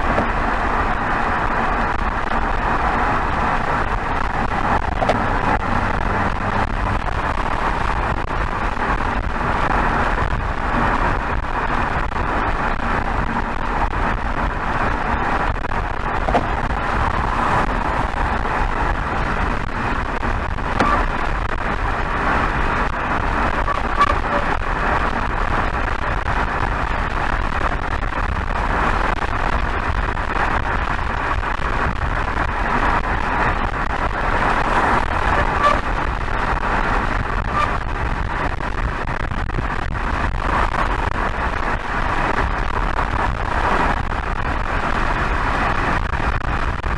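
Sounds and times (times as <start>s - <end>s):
diesel exhaust drone: 0.0s - 46.9s
wind and road noise: 0.0s - 46.9s.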